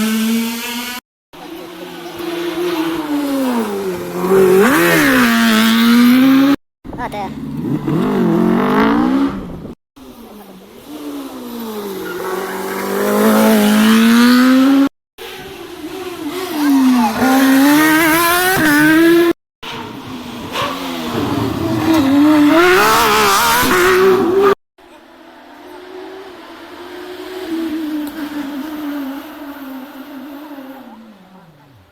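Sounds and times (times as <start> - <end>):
rally car engines at full throttle: 0.0 - 31.9.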